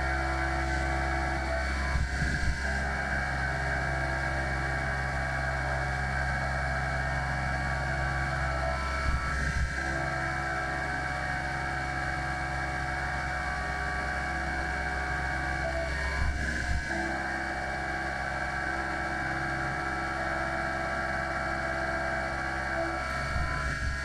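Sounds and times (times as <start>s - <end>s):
milling machine drone: 0.0s - 24.0s.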